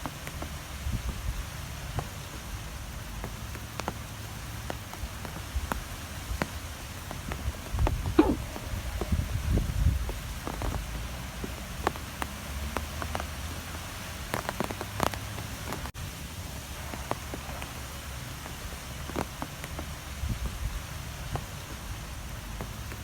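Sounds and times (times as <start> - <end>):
rain ticking on a surface: 0.0 - 23.0.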